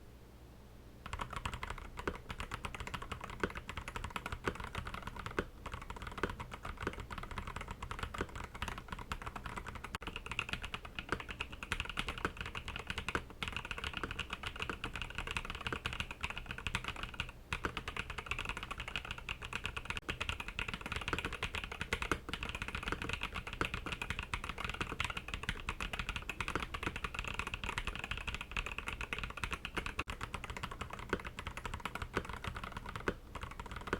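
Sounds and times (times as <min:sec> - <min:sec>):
mechanical keyboard typing: 0:01.1 - 0:33.9.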